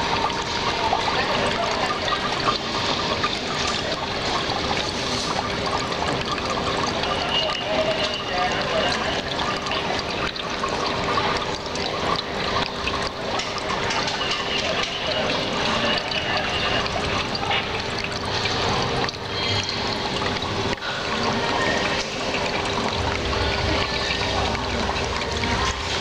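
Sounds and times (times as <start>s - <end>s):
fountain water trickling and splashing: 0.0s - 26.0s.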